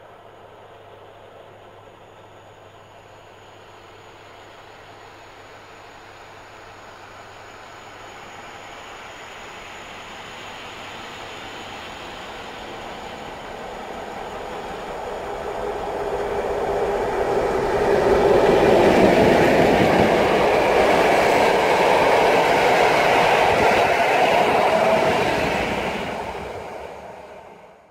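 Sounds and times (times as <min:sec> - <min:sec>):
passenger train passing: 0:00.0 - 0:27.9.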